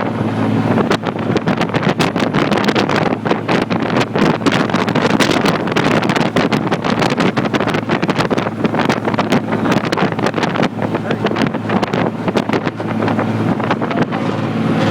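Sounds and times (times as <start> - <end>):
speedboat engine humming: 0.0 - 14.9
wind buffeting microphone: 0.0 - 14.9.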